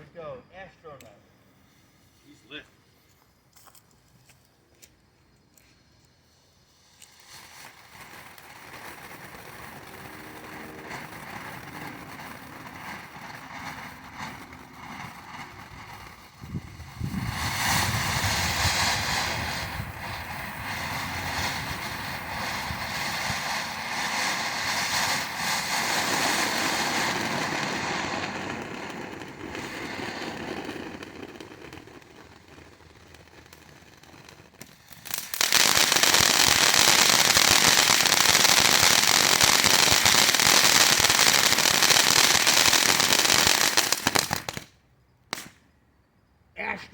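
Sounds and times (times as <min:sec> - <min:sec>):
firework crackling: 0:00.0 - 0:45.6
firework fountain hissing: 0:00.3 - 0:03.5, 0:05.4 - 0:45.6.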